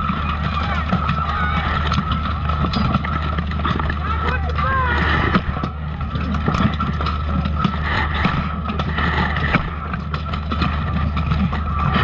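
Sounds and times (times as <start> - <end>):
plate armour clanking and scraping: 0.0 - 12.0.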